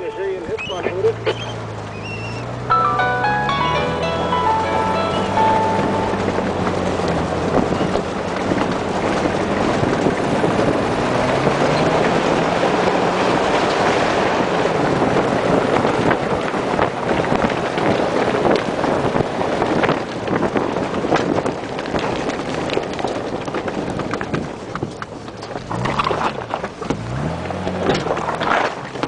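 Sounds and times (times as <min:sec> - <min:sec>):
car engine: 0:00.0 - 0:29.0
knocks and rattles from bumpy ride: 0:00.0 - 0:29.0
wind buffeting microphone: 0:04.4 - 0:29.0.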